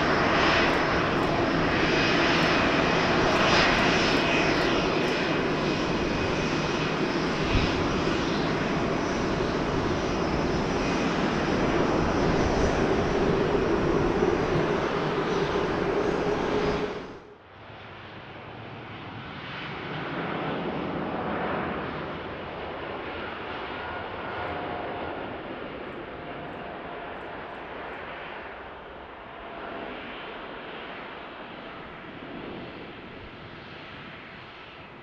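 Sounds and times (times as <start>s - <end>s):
jet engines roaring: 0.0s - 17.3s, 18.2s - 35.0s.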